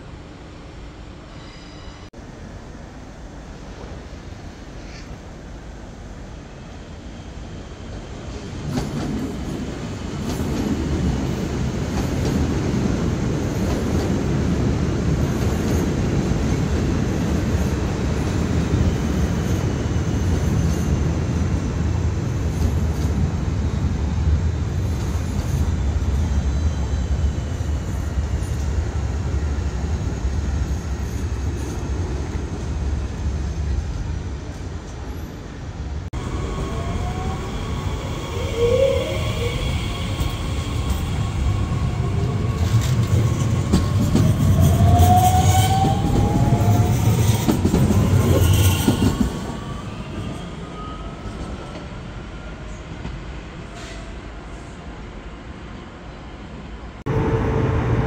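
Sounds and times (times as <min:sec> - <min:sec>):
train wheels rumbling on rails: 0:07.4 - 0:54.8.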